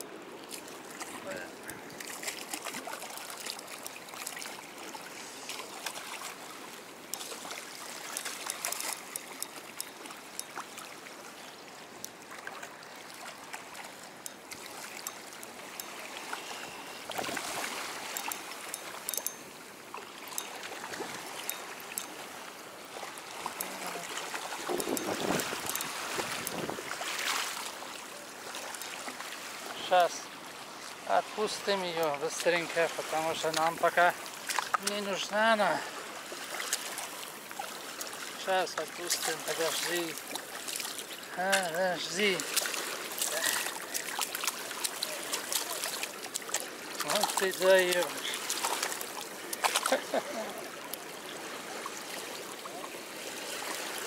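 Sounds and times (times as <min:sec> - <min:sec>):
river water running: 0:00.0 - 0:54.0.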